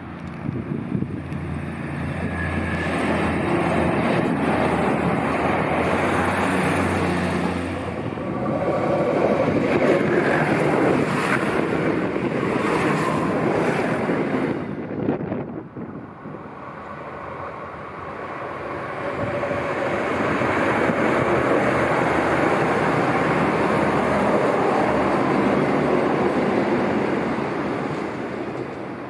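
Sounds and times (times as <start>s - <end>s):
diesel railcar engine: 0.0s - 29.0s
train wheels rumbling on rails: 0.0s - 29.0s.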